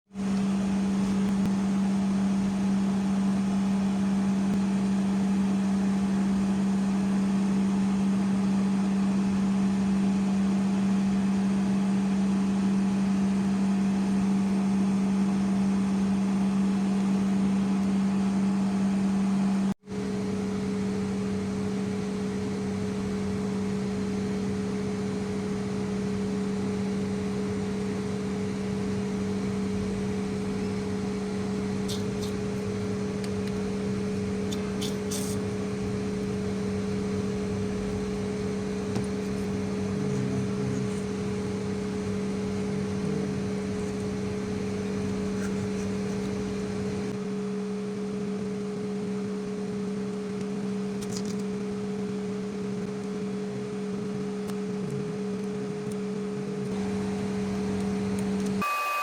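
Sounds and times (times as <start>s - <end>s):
machine hum: 0.1s - 47.5s, 48.2s - 59.0s.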